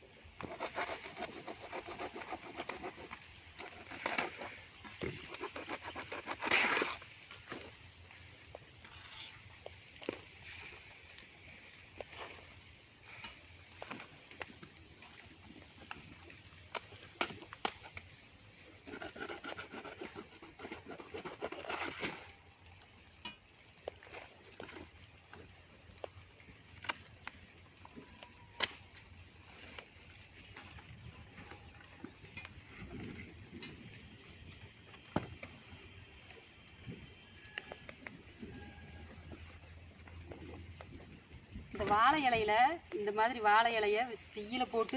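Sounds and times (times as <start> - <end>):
crickets droning: 0.0 - 44.9.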